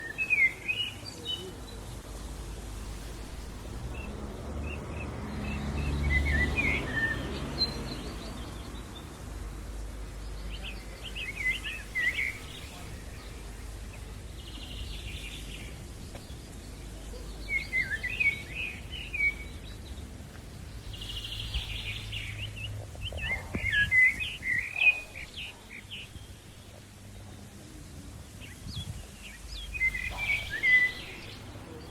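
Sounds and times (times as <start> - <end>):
low outdoor background rumble: 0.0 - 31.9
songbirds chirping: 0.0 - 31.9.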